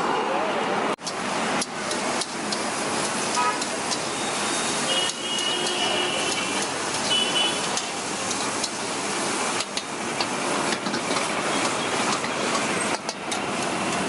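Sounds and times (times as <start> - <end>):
passing traffic: 0.0 - 14.0.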